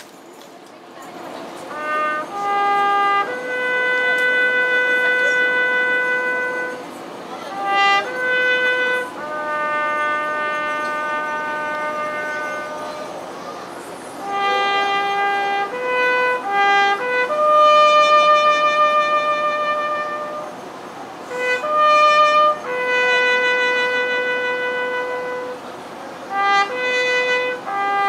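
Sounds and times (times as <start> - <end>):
trumpet playing military call: 1.6 - 13.4, 14.1 - 28.0.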